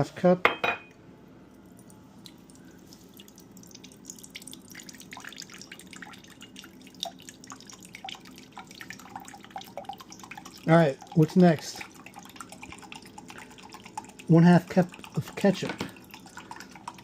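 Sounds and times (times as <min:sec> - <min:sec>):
low steady hum: 0:00.0 - 0:17.0
liquid dripping into a cup: 0:01.5 - 0:17.0.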